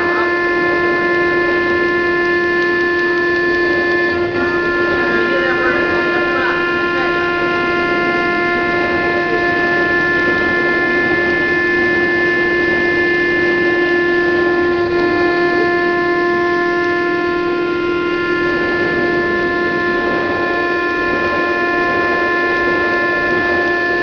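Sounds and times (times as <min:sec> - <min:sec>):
cnc router whining: 0:00.0 - 0:24.0
constant rushing noise: 0:00.0 - 0:24.0.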